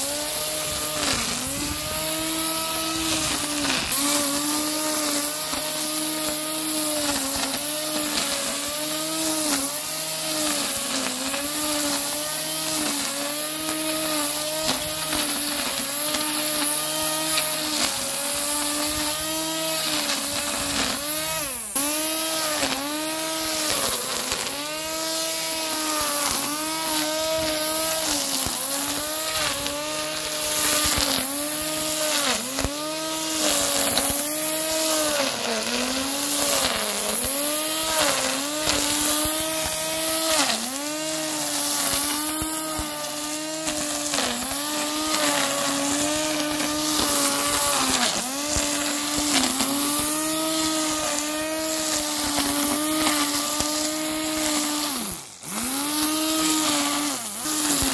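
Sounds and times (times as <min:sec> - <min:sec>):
electric grass trimmer whirring: 0:00.0 - 0:57.9.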